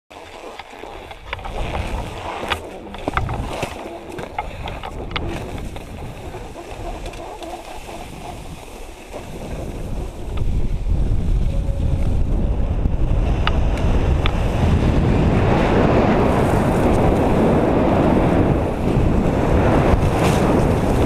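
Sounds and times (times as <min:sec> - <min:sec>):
wind buffeting microphone: 0:01.1 - 0:21.0.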